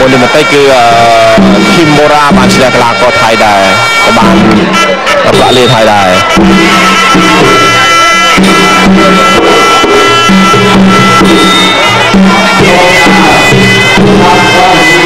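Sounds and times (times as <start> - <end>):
drums beating: 0.0 - 15.0
reed oboe melody: 0.0 - 15.0.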